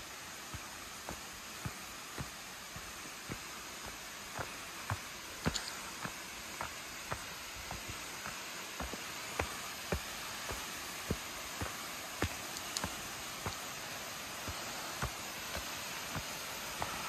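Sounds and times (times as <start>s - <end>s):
waterfall rushing: 0.0s - 17.0s
footsteps on dirt path: 0.5s - 17.0s.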